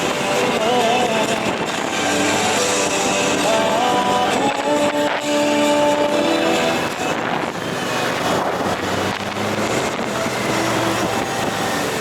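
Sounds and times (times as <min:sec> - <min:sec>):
motorcycle engine drone: 0:00.0 - 0:12.0
music track: 0:00.0 - 0:12.0
wind rushing over microphone: 0:00.0 - 0:12.0.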